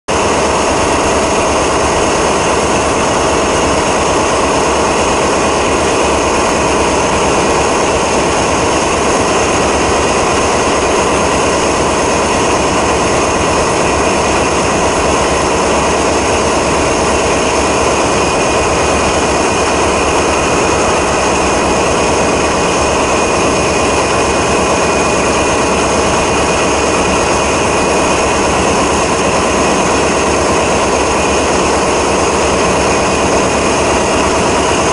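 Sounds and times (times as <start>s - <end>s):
diesel locomotive engine idling: 0.1s - 34.9s.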